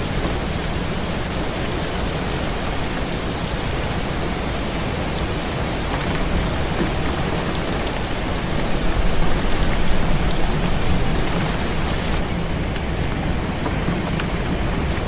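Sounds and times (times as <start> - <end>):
heavy rain on a window: 0.0 - 15.0.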